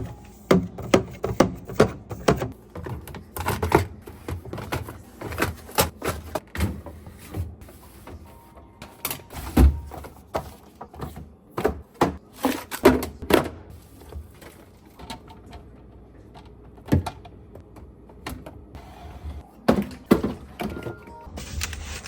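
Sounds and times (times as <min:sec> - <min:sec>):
containers clunking on shelves: 0:00.0 - 0:18.6, 0:19.2 - 0:21.2.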